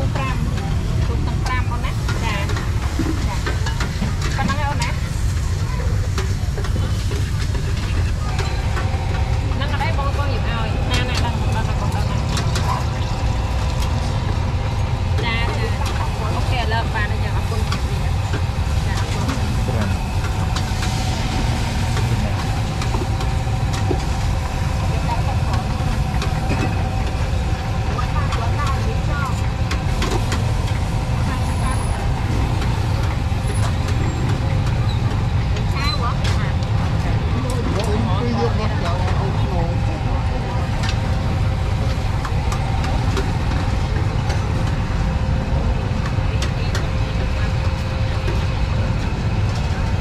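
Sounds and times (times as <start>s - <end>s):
low engine hum: 0.0s - 50.0s.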